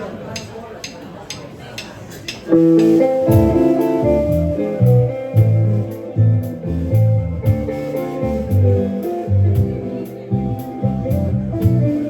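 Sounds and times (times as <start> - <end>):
live band playing upbeat groove: 2.3 - 12.0.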